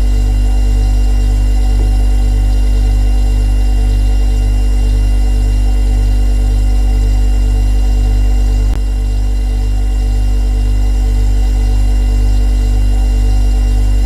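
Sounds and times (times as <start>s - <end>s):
refrigerator compressor humming: 0.0s - 14.0s.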